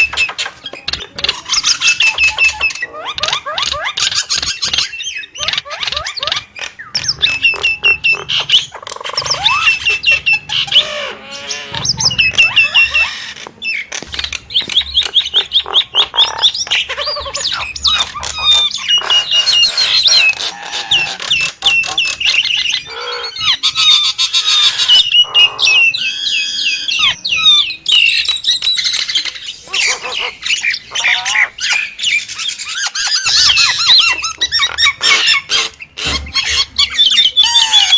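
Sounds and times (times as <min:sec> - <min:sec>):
bird squawking: 0:00.0 - 0:37.9
bird whistled calls: 0:01.5 - 0:13.9, 0:14.5 - 0:37.9.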